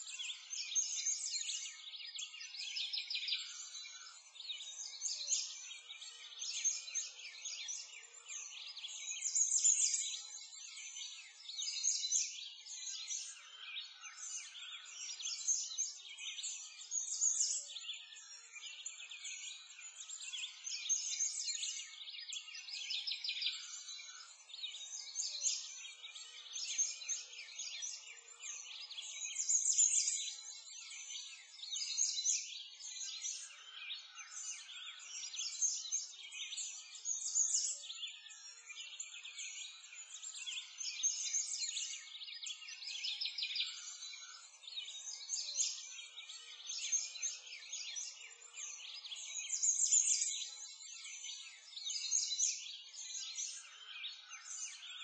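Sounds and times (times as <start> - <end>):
chorus of small birds chirping: 0.0 - 55.0.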